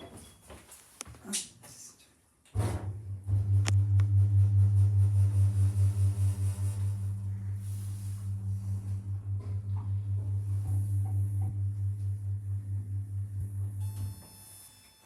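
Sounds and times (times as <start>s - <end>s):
lift machinery electrical hum: 2.6s - 15.0s.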